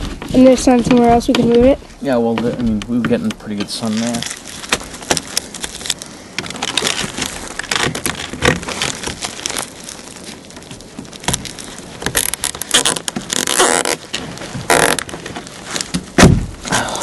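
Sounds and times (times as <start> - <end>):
flexible duct crinkling and rustling: 0.0 - 16.9.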